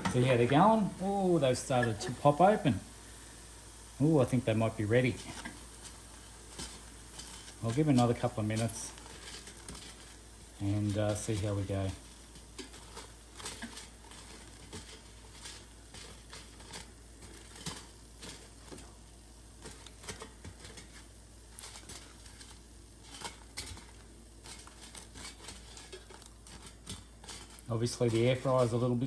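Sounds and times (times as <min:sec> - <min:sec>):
hot food crackling and ticking: 0:00.0 - 0:29.0.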